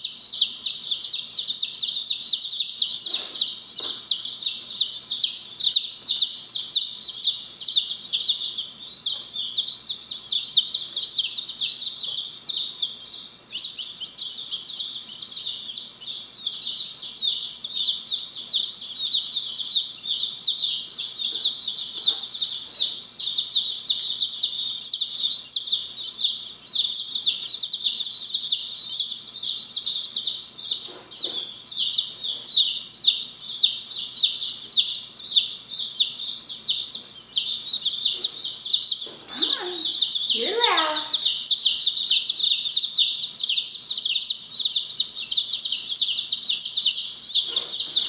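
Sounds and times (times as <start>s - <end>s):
chicks peeping: 0.0s - 48.0s.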